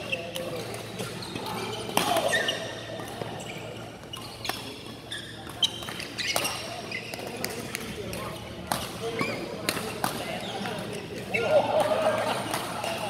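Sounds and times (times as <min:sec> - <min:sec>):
shoes squeaking on court floor: 0:00.0 - 0:11.7.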